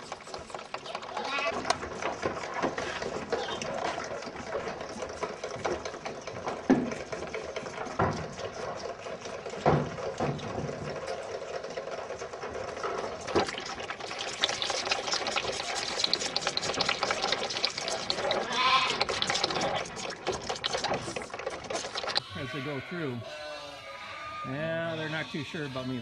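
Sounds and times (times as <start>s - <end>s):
animals moving in a barn: 0.0s - 26.0s
calves bawling: 0.0s - 26.0s.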